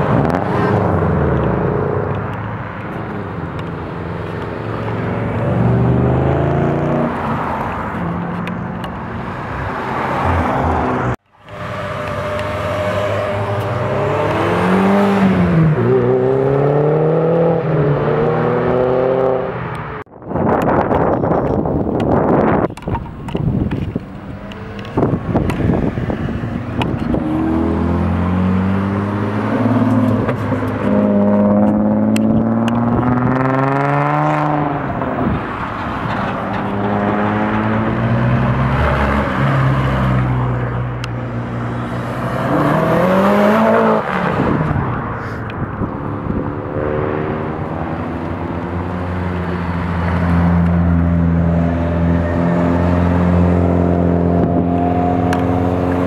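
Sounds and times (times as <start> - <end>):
engines accelerating: 0.0 - 20.1, 20.8 - 56.0
cars driving past: 0.0 - 20.8, 21.5 - 56.0.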